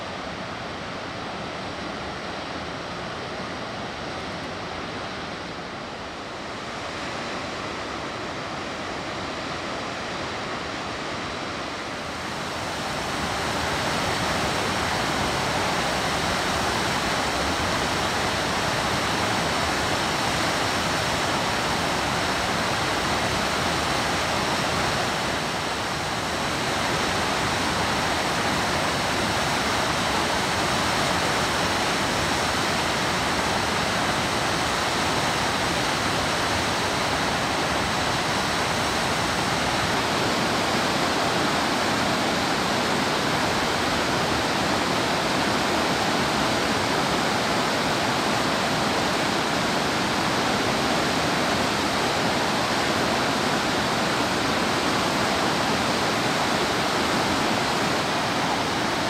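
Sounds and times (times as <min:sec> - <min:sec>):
river water rushing over boulders: 0:00.0 - 0:59.0.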